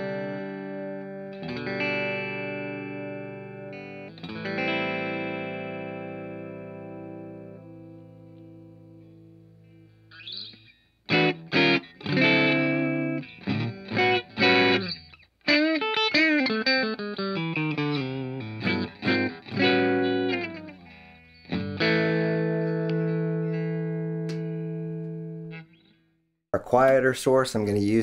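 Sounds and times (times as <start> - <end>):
electric guitar chords: 0.0 - 25.9.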